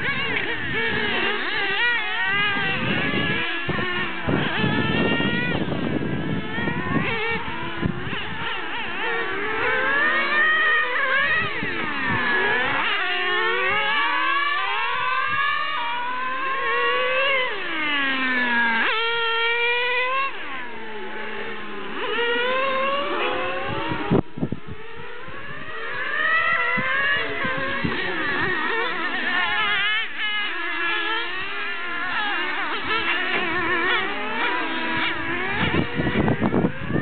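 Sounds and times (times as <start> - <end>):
rc car engines revving: 0.0 - 37.0.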